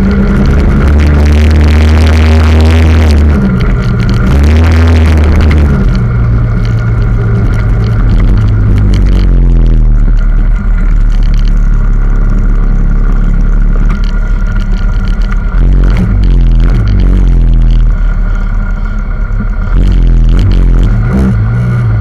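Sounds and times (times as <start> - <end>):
minibike engine revving: 0.0 - 11.5, 13.8 - 22.0.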